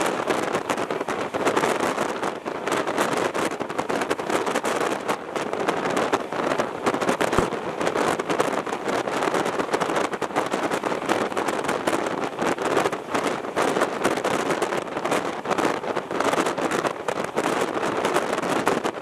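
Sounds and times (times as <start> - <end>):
wind rushing: 0.0 - 19.0.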